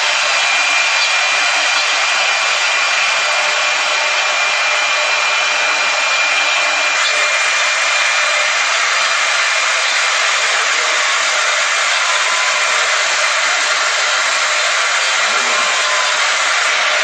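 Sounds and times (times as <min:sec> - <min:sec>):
router spindle hissing and whining: 0:00.0 - 0:17.0.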